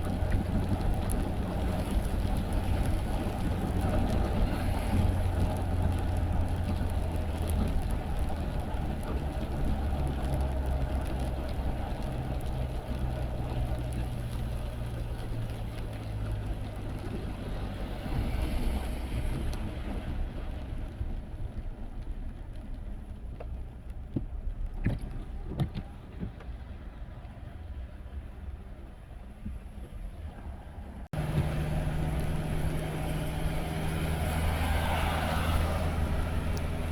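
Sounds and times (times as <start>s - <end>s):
car engine and tyre rumble: 0.0s - 36.9s.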